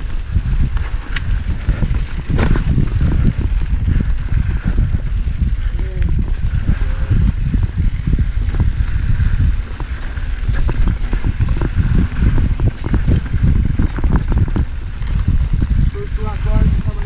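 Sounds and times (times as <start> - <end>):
bike rattling over trail: 0.0 - 17.0
wind buffeting microphone: 0.0 - 17.0.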